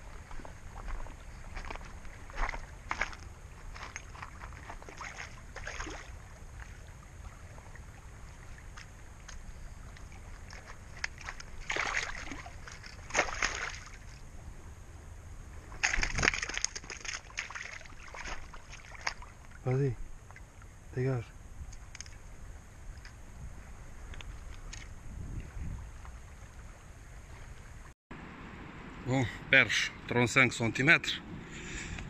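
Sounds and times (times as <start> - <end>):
wind rumble on microphone: 0.0 - 17.3, 18.1 - 29.0
water splashing and sloshing: 0.0 - 29.0.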